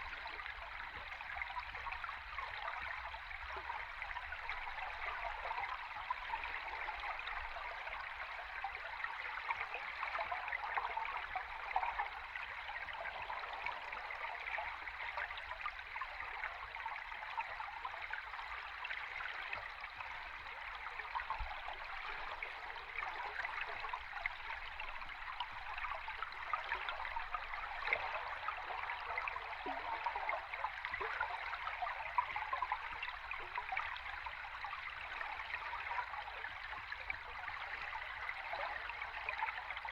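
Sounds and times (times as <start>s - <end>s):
underwater stream flowing and bubbling: 0.0s - 39.9s.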